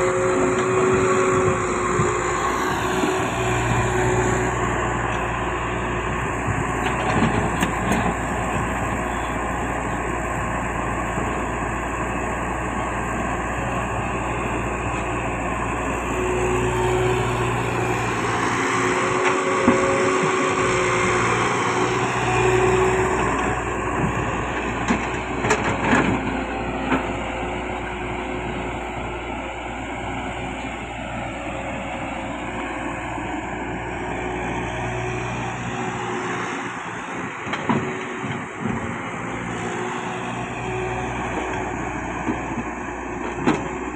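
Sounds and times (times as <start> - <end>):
diesel engine running under load: 0.0 - 43.9.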